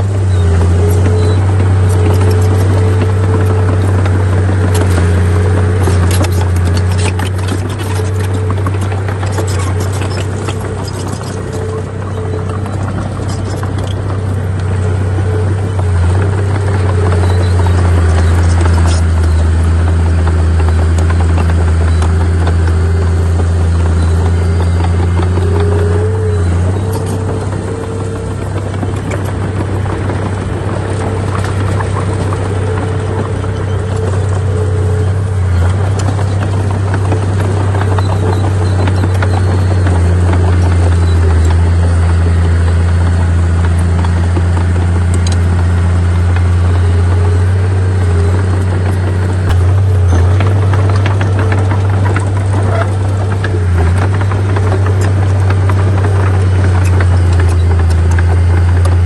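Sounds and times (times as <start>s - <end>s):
diesel engine droning: 0.0s - 59.0s
engine whine: 0.0s - 59.0s.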